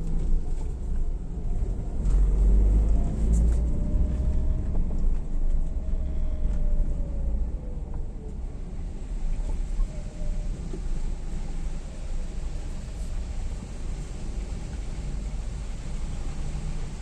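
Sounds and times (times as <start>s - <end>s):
vehicle low rumble: 0.0s - 17.0s.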